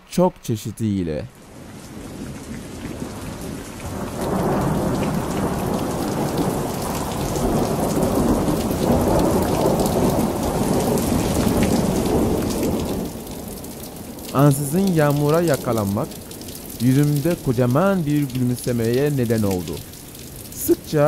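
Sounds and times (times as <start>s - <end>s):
rain falling: 0.1s - 21.0s
thunder rumbling: 1.3s - 21.0s.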